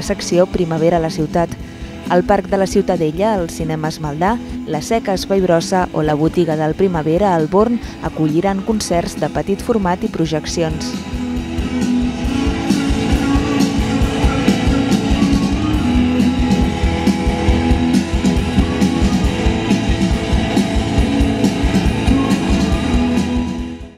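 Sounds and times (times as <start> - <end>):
rock music with guitar and drums: 0.0 - 23.9.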